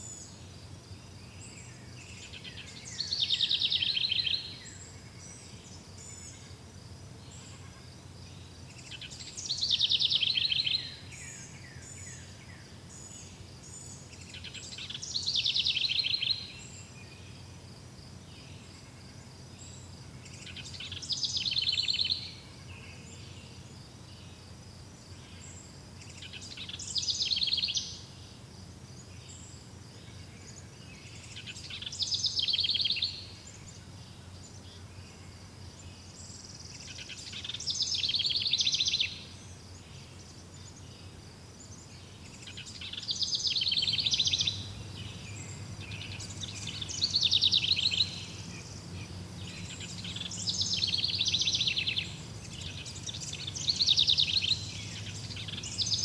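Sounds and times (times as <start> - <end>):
songbird trilled song: 0.0 - 24.5, 25.2 - 28.4, 29.0 - 56.0
insects chirring: 0.0 - 56.0.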